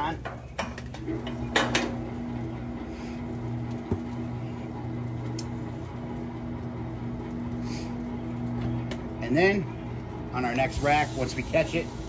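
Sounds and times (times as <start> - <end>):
rotisserie motor humming: 0.0 - 12.0.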